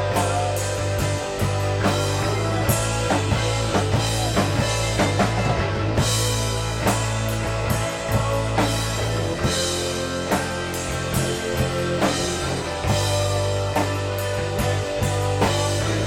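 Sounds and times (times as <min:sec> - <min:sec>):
drum kit beat: 0:00.0 - 0:16.0
guitar: 0:00.0 - 0:16.0
sustained bass notes: 0:00.0 - 0:16.0.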